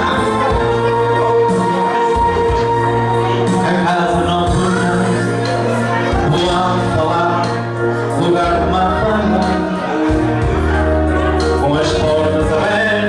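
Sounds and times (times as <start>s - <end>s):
held bass notes: 0.0s - 13.0s
person singing: 0.0s - 13.0s.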